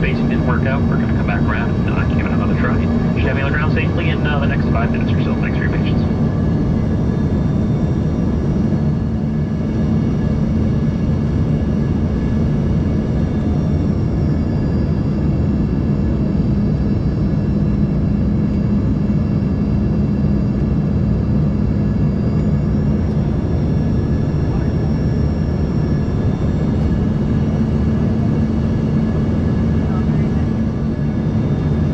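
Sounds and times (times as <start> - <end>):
high-pitched engine whine: 0.0 - 31.9
jet cabin drone: 0.0 - 31.9.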